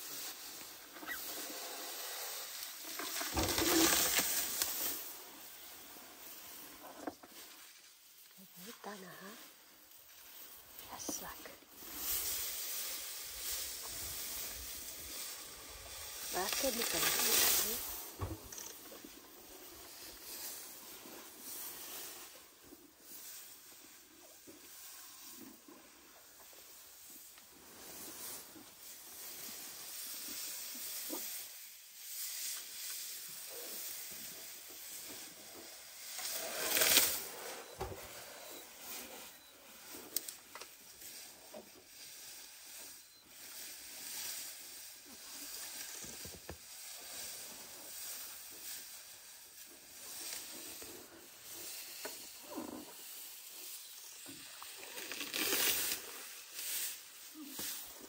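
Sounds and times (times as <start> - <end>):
elephant tearing up grass: 0.1 - 6.9, 11.7 - 22.4, 23.0 - 58.0.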